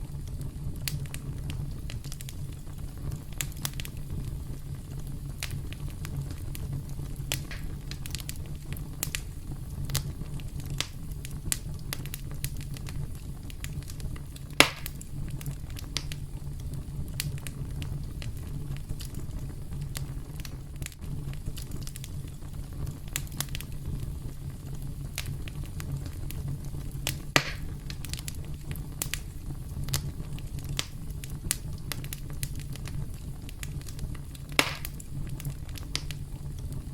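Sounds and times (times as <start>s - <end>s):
burning wood crackling and popping: 0.0s - 36.9s
campfire rumble: 0.0s - 36.9s.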